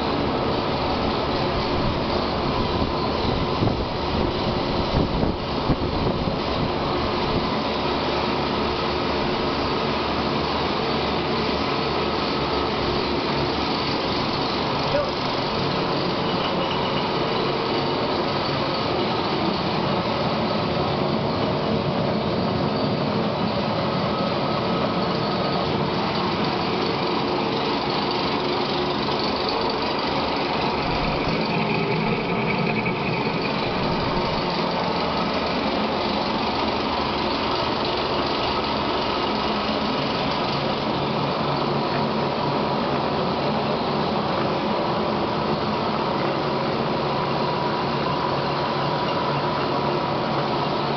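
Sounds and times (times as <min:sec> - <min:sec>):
lathe machine hum: 0:00.0 - 0:50.9.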